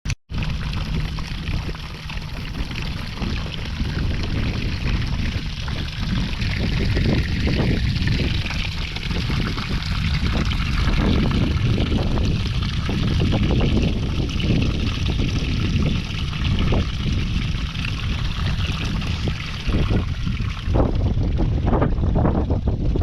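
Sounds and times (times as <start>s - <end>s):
water pouring and splashing: 0.3s - 22.4s
low rumble: 0.3s - 23.0s.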